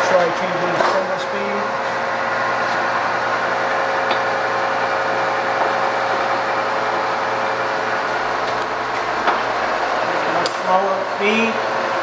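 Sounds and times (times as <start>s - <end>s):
milling machine whirring: 0.0s - 12.0s.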